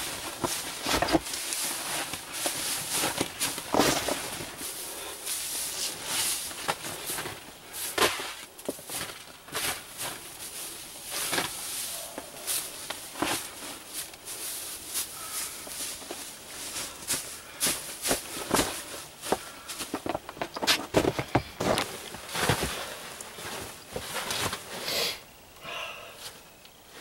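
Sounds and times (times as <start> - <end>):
evergreen boughs rustling: 0.0 - 25.2.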